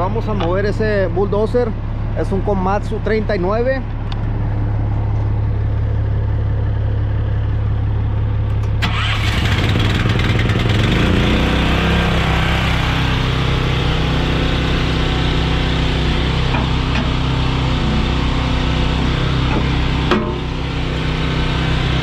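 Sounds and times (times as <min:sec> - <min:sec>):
diesel engine idling: 0:00.0 - 0:22.0
second engine running: 0:00.0 - 0:22.0.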